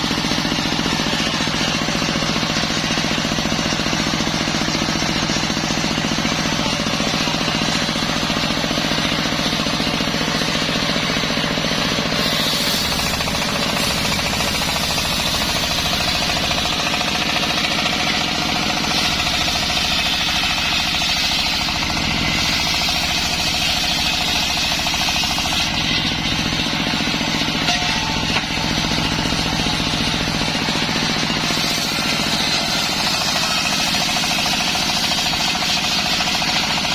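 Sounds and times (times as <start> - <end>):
circular saw motor humming: 0.0 - 36.9
saw blade ripping through wood: 0.0 - 36.9.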